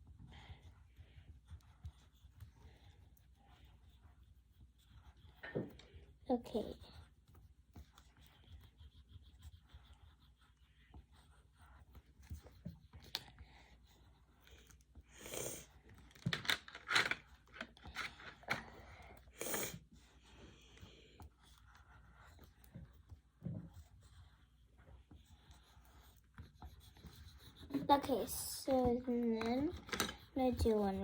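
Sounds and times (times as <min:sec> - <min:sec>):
pencil scribbling on paper: 0:00.0 - 0:16.0, 0:17.6 - 0:31.0.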